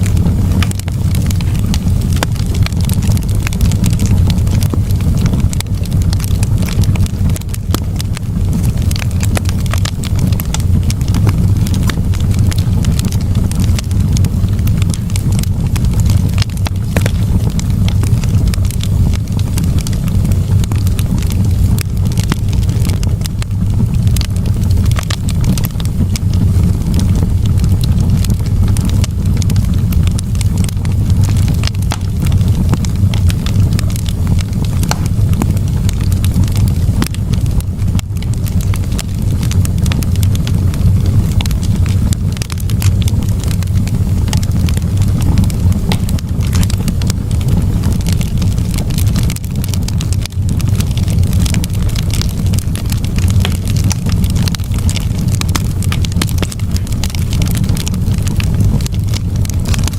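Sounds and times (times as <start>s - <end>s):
campfire crackling: 0.0s - 59.9s
low fire rumble: 0.0s - 59.9s.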